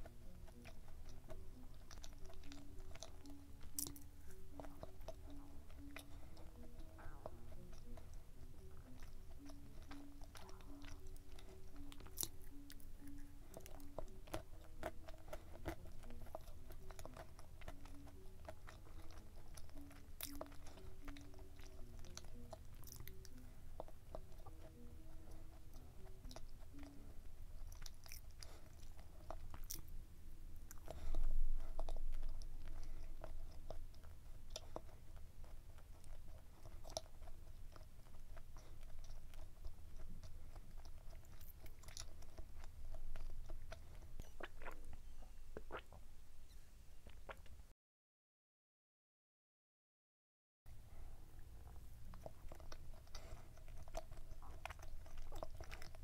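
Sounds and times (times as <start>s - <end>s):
soft background melody: 0.0s - 46.2s
chewing soft muffin: 0.0s - 47.7s, 50.7s - 56.0s.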